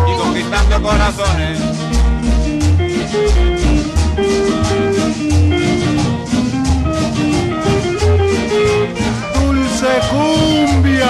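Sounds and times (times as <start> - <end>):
bass line: 0.0 - 11.0
melody in held notes: 0.0 - 11.0
steady percussion: 0.0 - 11.0.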